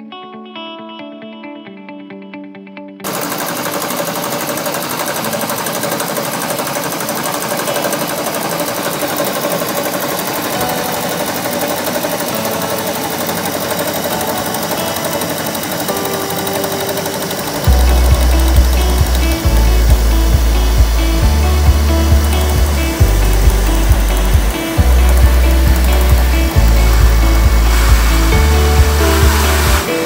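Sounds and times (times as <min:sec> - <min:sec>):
shop vacuum running: 0:03.0 - 0:30.0
milling machine cutting metal: 0:03.1 - 0:30.0.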